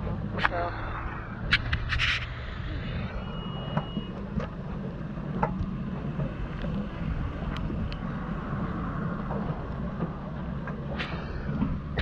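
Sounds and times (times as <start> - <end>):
lorry engine rumbling: 0.0 - 12.0.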